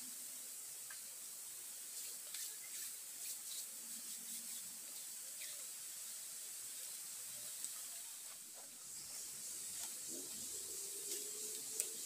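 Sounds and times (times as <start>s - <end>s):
campfire crackling: 0.0s - 12.0s
steady high hiss: 0.0s - 12.0s.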